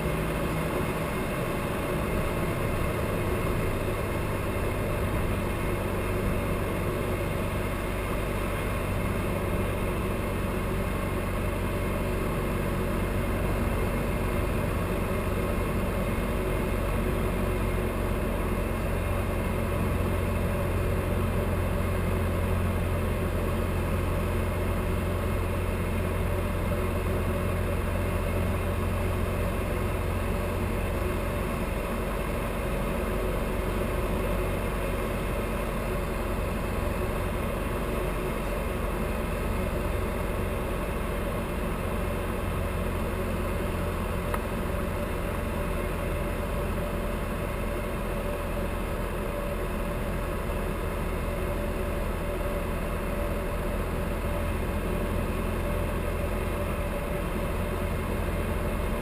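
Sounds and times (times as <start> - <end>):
aircraft engine idling drone: 0.0 - 59.0.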